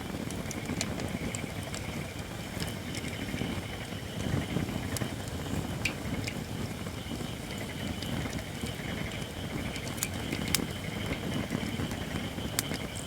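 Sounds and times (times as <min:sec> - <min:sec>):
campfire rumble and crackling: 0:00.0 - 0:13.0
thin hiss from burning wood: 0:00.0 - 0:13.0.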